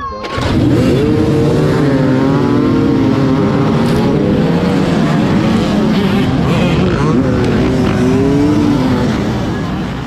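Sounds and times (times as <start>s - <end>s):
motorcycle engines revving: 0.3s - 10.0s.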